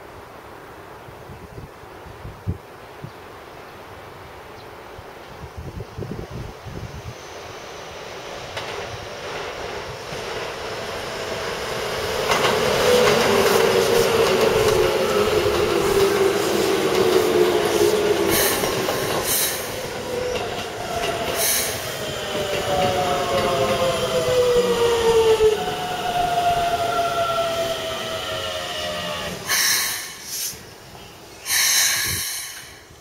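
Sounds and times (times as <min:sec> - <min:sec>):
falling whine of train: 0:05.3 - 0:33.0
electric train passing: 0:06.0 - 0:33.0.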